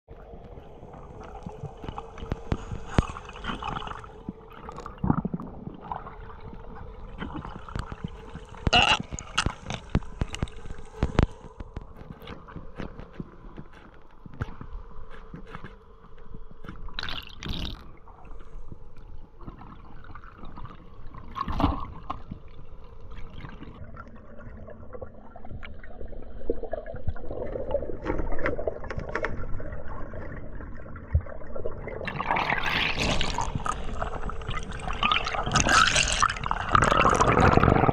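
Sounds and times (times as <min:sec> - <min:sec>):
underwater bubbling water: 0:00.1 - 0:37.9.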